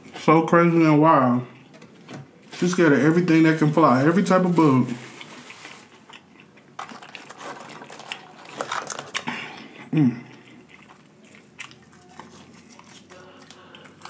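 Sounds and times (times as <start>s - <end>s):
chewing fries: 2.5s - 14.0s.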